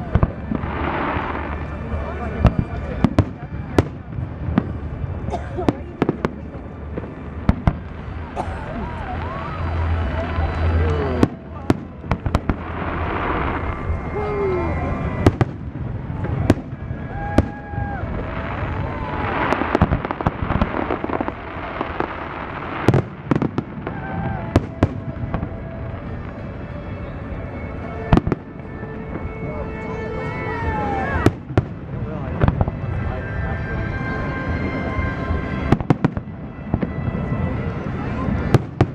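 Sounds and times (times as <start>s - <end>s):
crowd voices: 0.0s - 38.9s
fireworks bangs: 0.0s - 38.9s.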